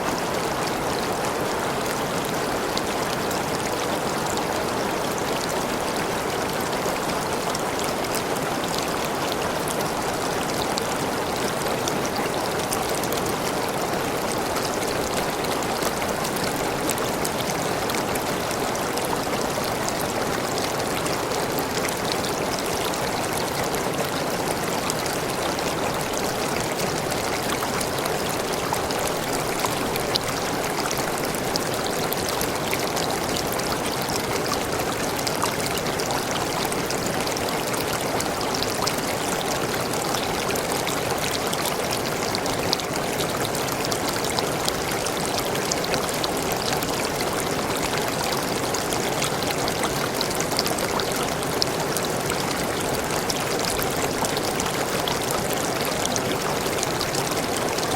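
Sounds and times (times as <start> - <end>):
water drips and splashes: 0.0 - 57.9.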